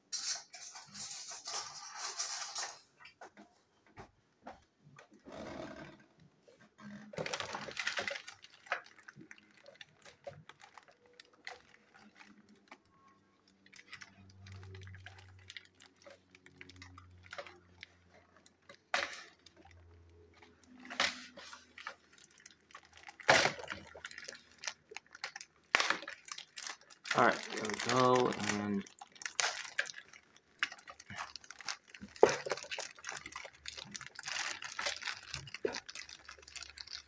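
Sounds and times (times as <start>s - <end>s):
plastic packaging rustling: 7.0s - 37.0s.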